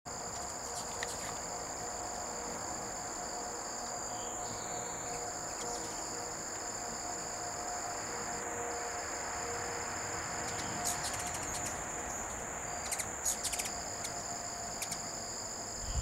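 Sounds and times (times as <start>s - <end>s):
high-pitched insect chorus: 0.1s - 16.0s.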